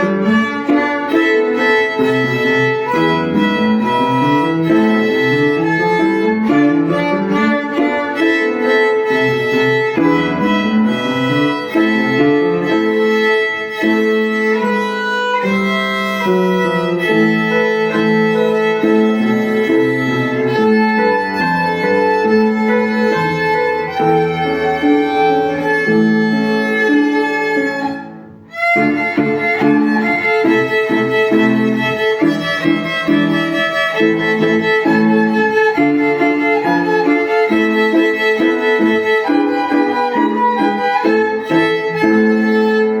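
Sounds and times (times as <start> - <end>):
solo instrumental folk melody: 0.0 - 43.0.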